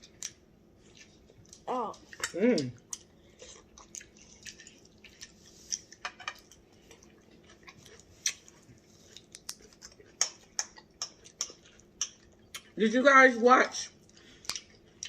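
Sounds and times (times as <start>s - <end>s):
people chewing and lip smacking: 0.0s - 12.8s, 13.8s - 15.0s.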